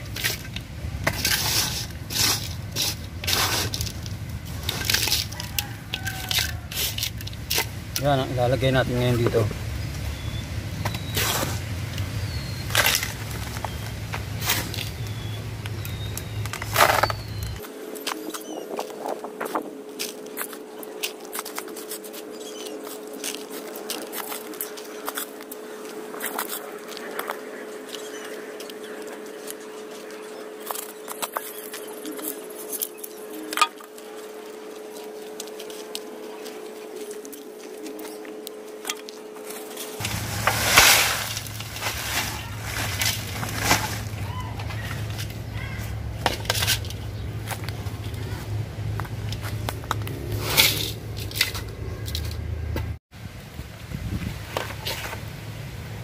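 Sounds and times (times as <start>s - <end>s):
hands scraping gritty soil: 0.0s - 9.5s, 10.2s - 45.4s, 46.3s - 52.5s
steady low hum: 0.0s - 54.2s.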